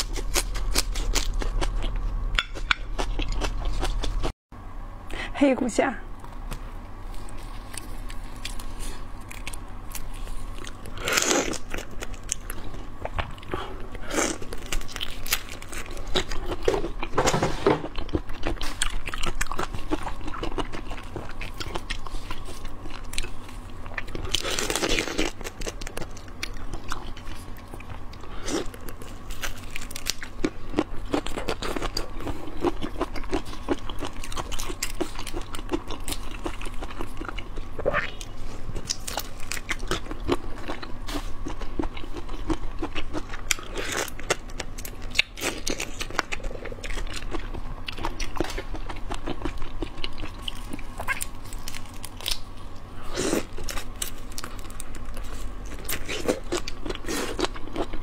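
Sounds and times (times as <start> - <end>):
crunching and chewing shrimp: 0.0 - 4.3, 6.2 - 58.0
faint steady hum: 0.0 - 58.0.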